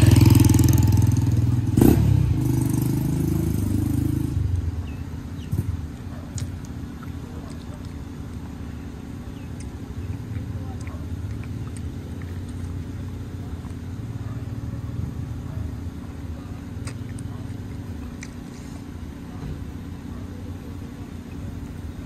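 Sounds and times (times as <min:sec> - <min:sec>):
low mechanical rumble and hum: 0:00.0 - 0:22.0.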